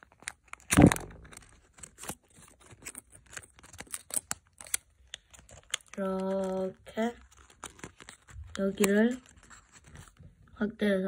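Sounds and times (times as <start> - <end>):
paper crinkling while folded: 0.0 - 10.3
paper rustle: 0.0 - 10.3.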